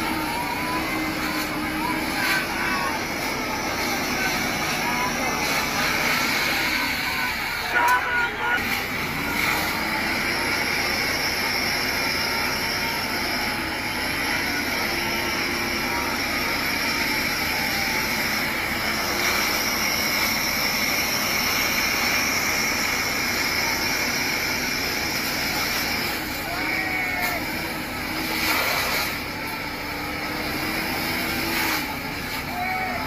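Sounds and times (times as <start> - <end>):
water cannon jet spraying: 0.0 - 33.0.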